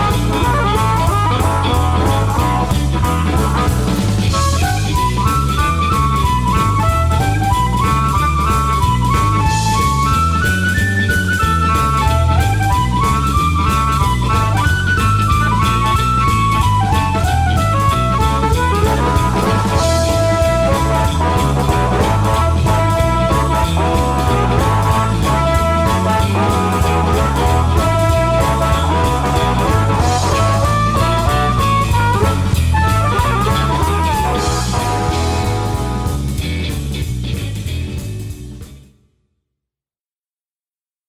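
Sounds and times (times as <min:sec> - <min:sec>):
amplified blues harmonica: 0:00.0 - 0:36.3
blues backing track with bass and drums: 0:00.0 - 0:39.0.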